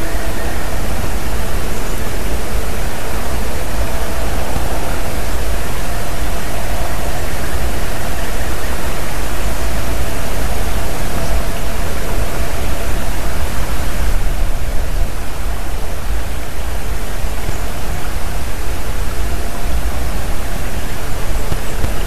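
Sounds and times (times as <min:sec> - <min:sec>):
loud steady rushing noise: 0:00.0 - 0:22.0.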